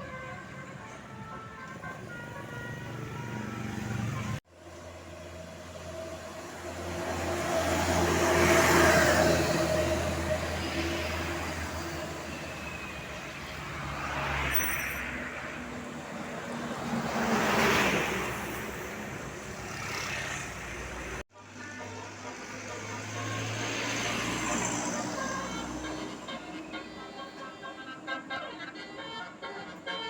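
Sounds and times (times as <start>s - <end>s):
steady engine hum: 0.0s - 17.4s, 18.0s - 30.0s
vehicles passing by: 0.0s - 30.0s.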